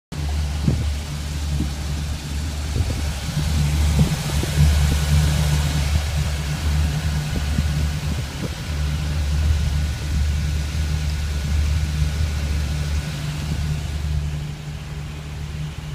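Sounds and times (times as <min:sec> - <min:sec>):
boat engine low rumble: 0:00.1 - 0:15.9
propeller wash churning water: 0:00.1 - 0:15.9.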